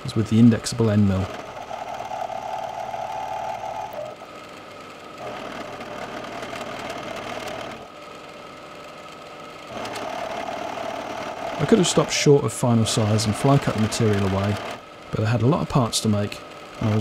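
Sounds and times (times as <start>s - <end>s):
milling machine cutting metal: 0.0s - 4.5s, 5.1s - 8.0s, 9.7s - 17.0s.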